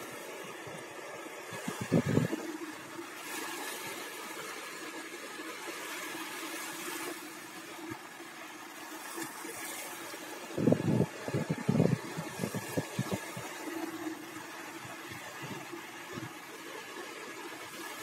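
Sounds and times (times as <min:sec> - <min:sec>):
small waves breaking on rocky shore: 0:00.0 - 0:18.0.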